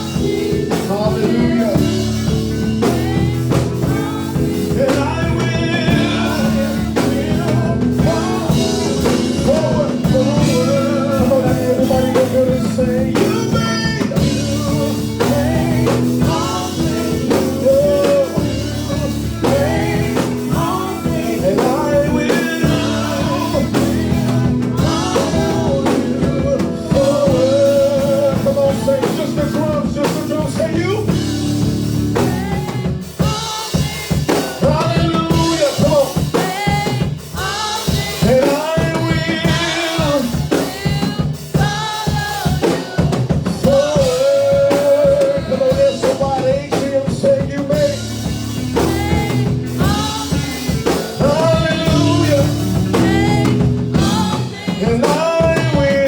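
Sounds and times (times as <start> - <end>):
bass: 0.0 - 56.0
drum kit: 0.0 - 56.0
voices singing: 0.0 - 56.0.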